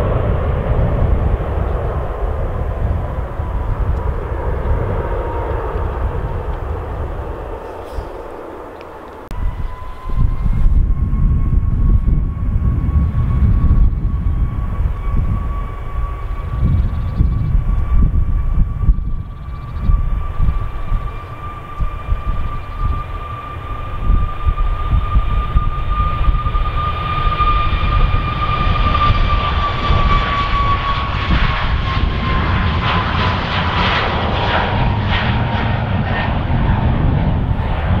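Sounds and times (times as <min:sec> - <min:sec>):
deep rumble: 0:00.0 - 0:38.0
jet engine high whine: 0:00.0 - 0:38.0
jet engine roar: 0:00.0 - 0:38.0.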